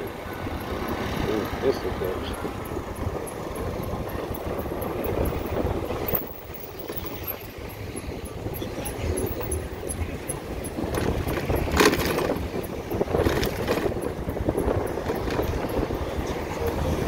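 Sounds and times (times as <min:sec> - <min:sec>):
tyre noise: 0:00.0 - 0:17.0
wind rushing over microphone: 0:00.0 - 0:17.0.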